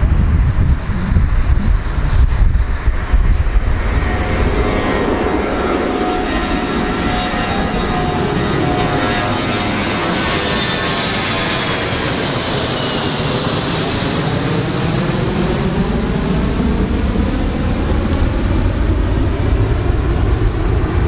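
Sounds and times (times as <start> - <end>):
aircraft engines running: 0.0 - 21.0.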